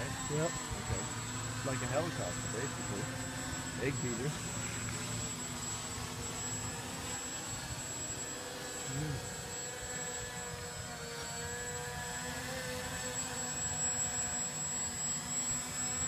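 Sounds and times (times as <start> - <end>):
model aircraft motors whining: 0.0 - 16.0.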